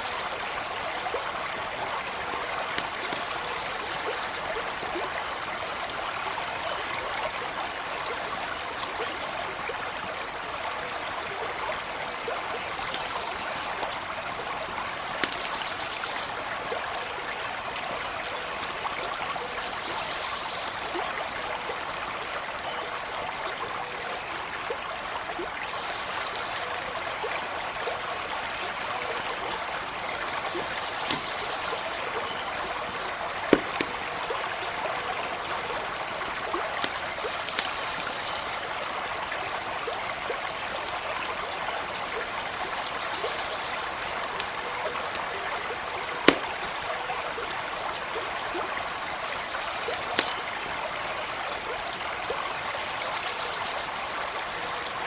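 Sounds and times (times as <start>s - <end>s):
campfire popping: 0.0s - 19.8s, 23.7s - 50.8s
stream running: 0.0s - 55.0s.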